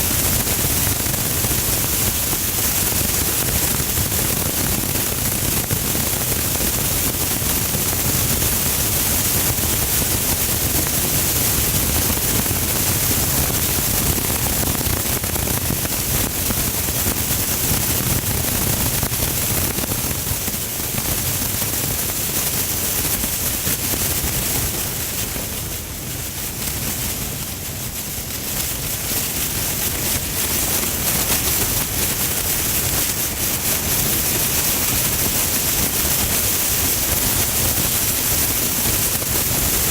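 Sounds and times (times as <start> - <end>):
rain on car windshield: 0.0 - 39.9.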